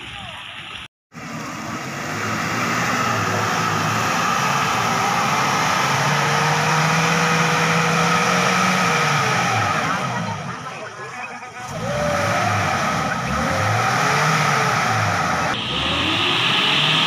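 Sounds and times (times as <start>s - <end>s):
engine revving hard: 1.1s - 10.9s, 11.6s - 17.0s.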